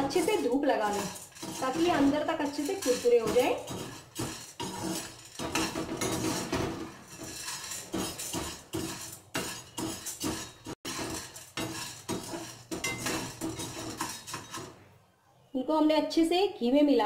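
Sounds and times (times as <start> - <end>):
spoon scraping and clinking in pan: 0.0 - 14.9.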